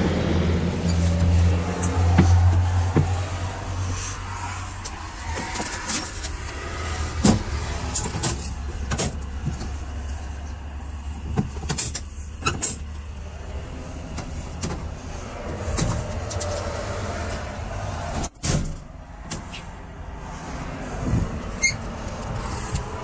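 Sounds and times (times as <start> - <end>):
bus engine idling: 0.0 - 23.0.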